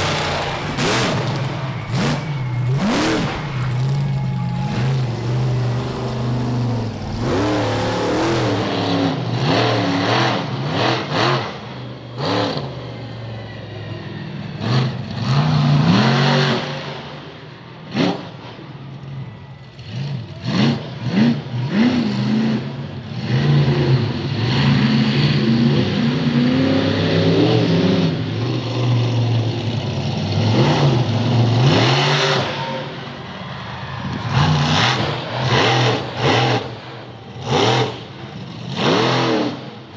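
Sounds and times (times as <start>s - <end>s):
truck engine revving: 0.0s - 12.8s, 14.6s - 17.2s, 19.8s - 39.9s.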